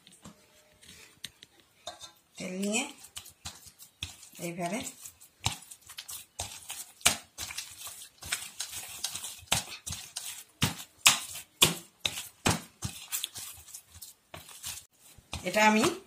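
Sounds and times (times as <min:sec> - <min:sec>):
dough kneaded in metal bowl: 0:00.0 - 0:16.0.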